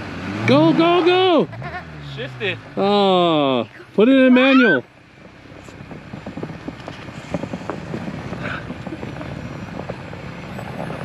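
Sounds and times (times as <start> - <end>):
vehicle engine working hard: 0.0 - 11.0.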